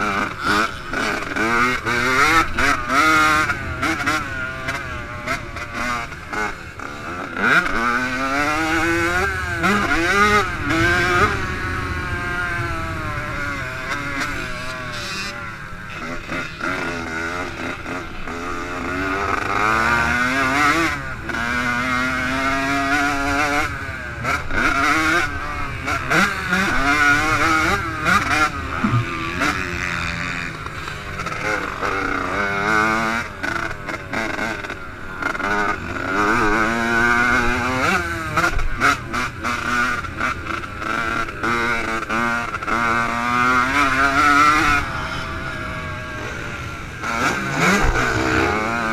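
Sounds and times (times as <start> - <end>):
two-stroke motorcycle engine revving: 0.0 - 48.9.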